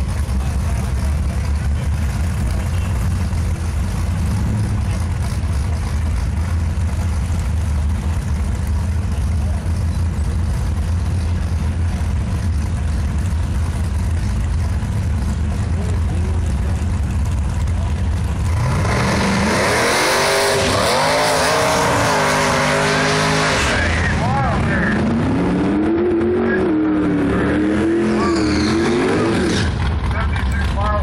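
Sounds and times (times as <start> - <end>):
car engine idling: 0.0 - 25.5, 29.5 - 31.0.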